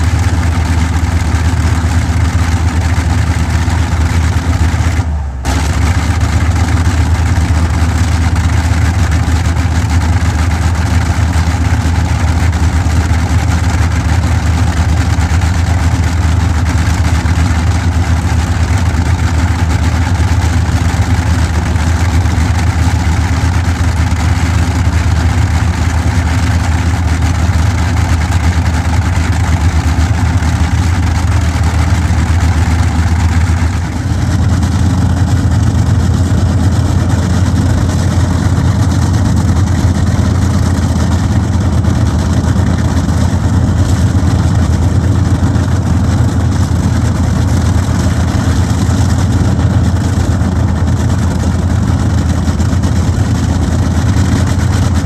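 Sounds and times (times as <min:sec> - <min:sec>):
radial aero engine droning: 0:00.0 - 0:55.0.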